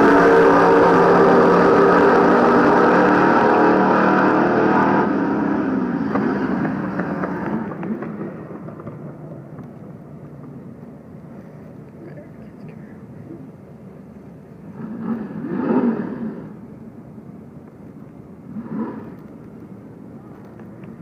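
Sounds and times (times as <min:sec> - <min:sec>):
drag cars at full throttle: 0:00.0 - 0:11.9, 0:14.6 - 0:21.0.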